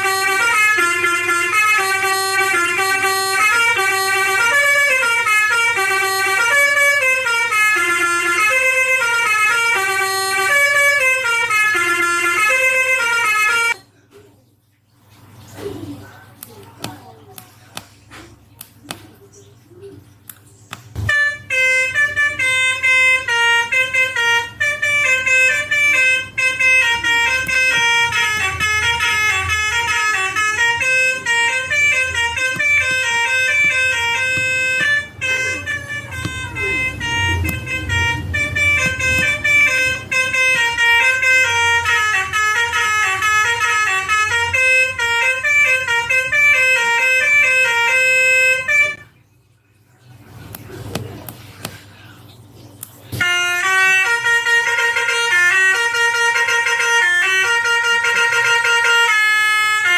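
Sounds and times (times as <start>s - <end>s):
electronic bus horn melody: 0.0s - 13.8s, 21.0s - 49.3s, 53.2s - 59.9s.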